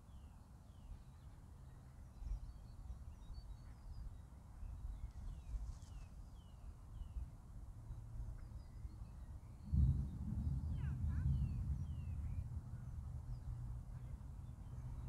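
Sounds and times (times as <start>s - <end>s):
songbirds chirping: 0.0s - 15.0s
wind rumble on microphone: 2.0s - 15.0s.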